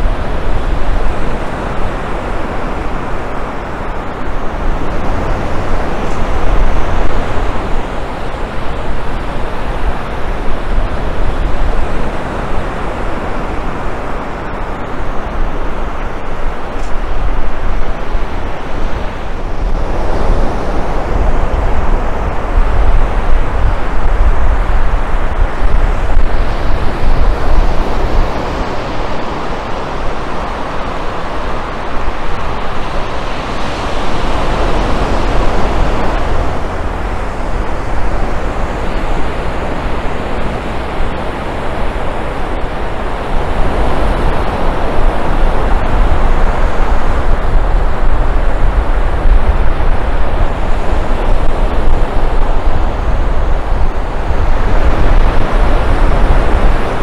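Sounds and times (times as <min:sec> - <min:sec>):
ocean surf: 0:00.0 - 0:57.0
wind buffeting microphone: 0:00.0 - 0:57.0.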